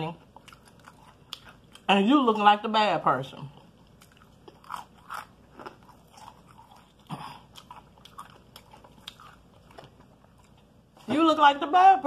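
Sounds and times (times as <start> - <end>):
chewing crispy fried chicken: 0.1 - 2.4, 3.5 - 11.1.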